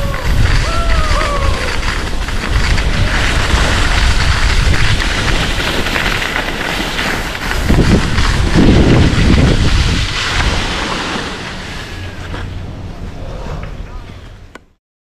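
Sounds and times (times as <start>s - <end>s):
skis scraping over snow: 0.0s - 14.4s
wind buffeting microphone: 0.0s - 14.5s.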